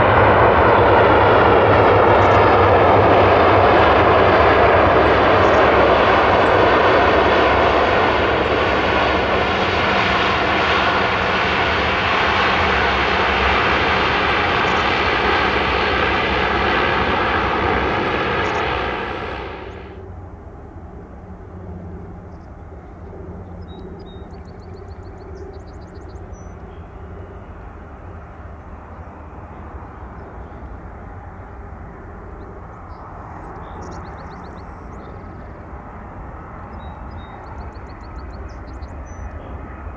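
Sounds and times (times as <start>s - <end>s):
jet low rumble: 0.0s - 39.9s
turboprop engine running: 0.0s - 39.9s.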